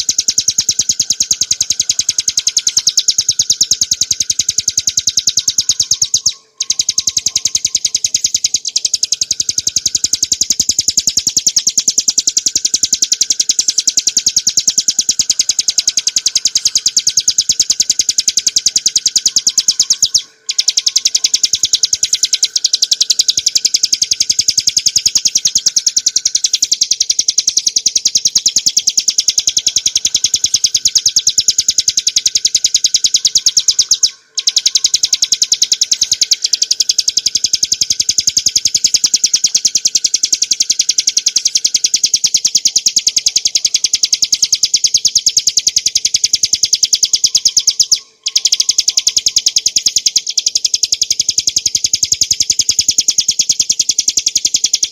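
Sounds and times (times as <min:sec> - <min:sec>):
bird singing rattling trill: 0:00.0 - 0:54.9.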